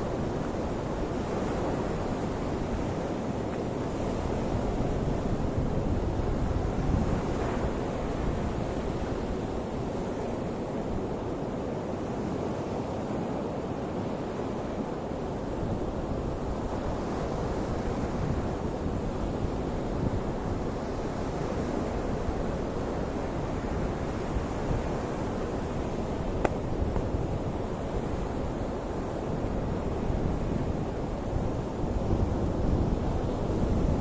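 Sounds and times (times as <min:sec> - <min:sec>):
wind buffeting microphone: 0:00.0 - 0:10.8, 0:15.8 - 0:34.0.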